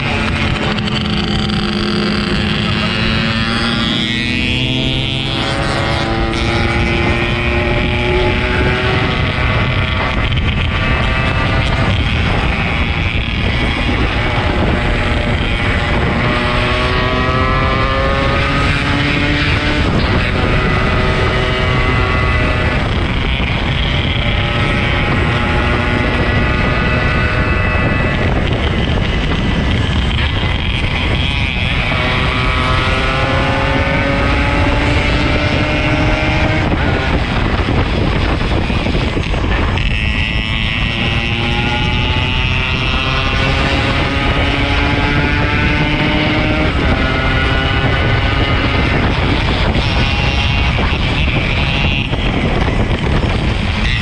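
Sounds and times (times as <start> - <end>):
two-stroke motorcycle engine: 0.0 - 54.0
wind noise on microphone: 0.0 - 54.0.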